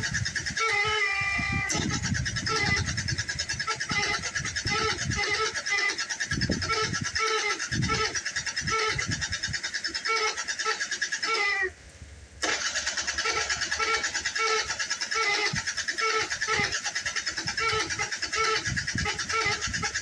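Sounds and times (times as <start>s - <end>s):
scooter engine cranking: 0.0s - 11.6s, 12.4s - 20.0s.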